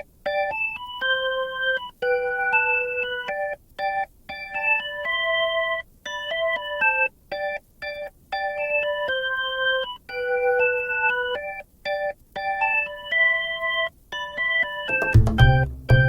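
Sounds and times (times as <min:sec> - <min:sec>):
keyboard melody and chords: 0:00.0 - 0:16.0.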